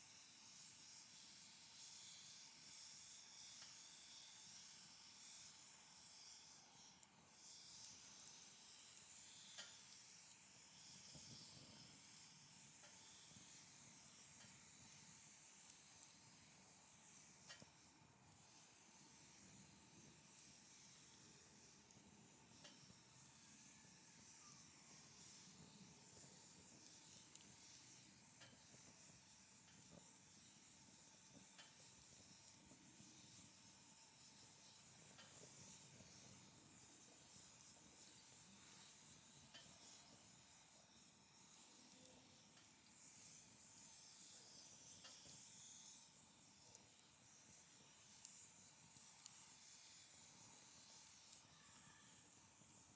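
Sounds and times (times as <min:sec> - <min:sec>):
faint wood fire crackling: 0:00.0 - 0:52.9.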